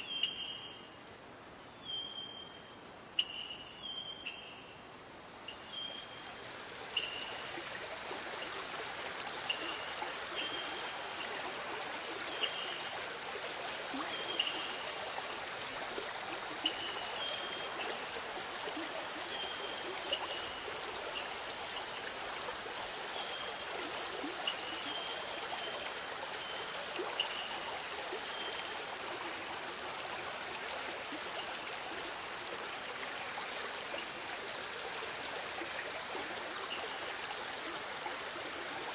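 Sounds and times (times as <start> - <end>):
high insect drone: 0.0 - 38.9
stream flowing and trickling: 0.0 - 38.9.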